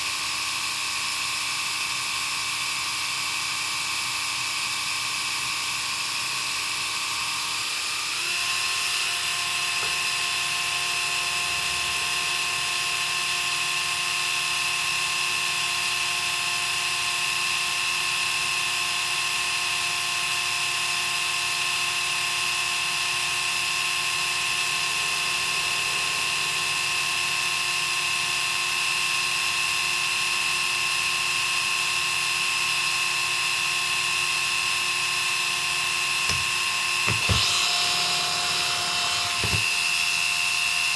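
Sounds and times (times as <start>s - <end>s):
epilator motor whining and buzzing: 1.0s - 16.0s, 20.8s - 31.0s, 31.6s - 40.8s.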